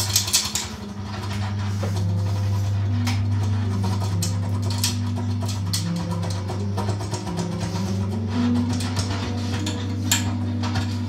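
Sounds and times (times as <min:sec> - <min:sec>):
low drone: 0:00.0 - 0:11.0
noisy clicks and scrapes: 0:00.0 - 0:11.0.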